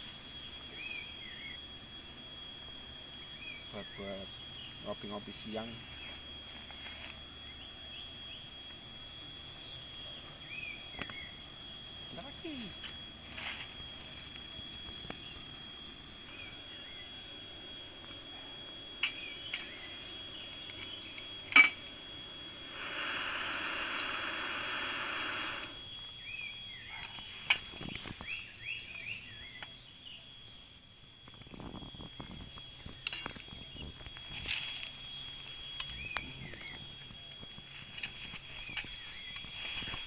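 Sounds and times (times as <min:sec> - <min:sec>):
gas stove burner hissing: 0:00.0 - 0:40.0.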